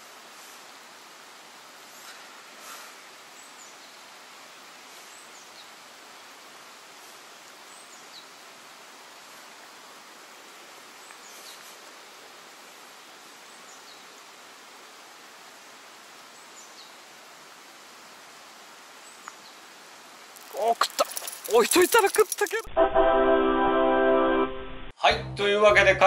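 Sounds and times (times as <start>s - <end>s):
outdoor background hiss: 0.0s - 22.7s.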